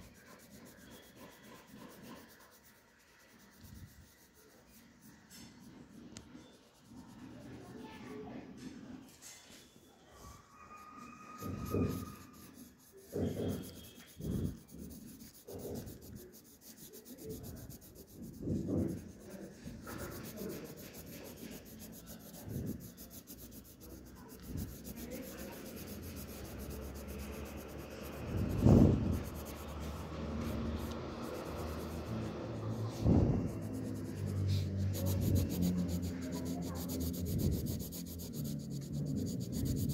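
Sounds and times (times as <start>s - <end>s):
pen scribbling on paper: 0.0s - 7.9s, 11.3s - 39.9s.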